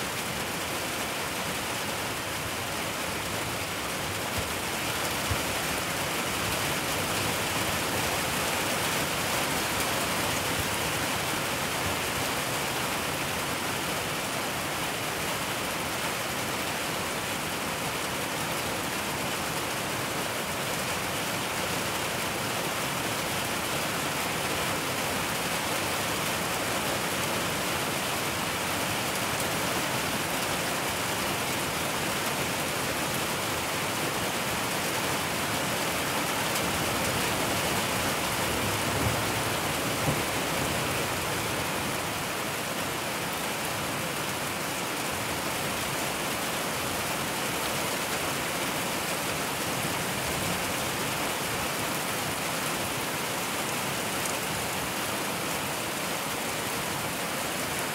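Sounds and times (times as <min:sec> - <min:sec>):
rain falling: 0:00.0 - 0:57.9.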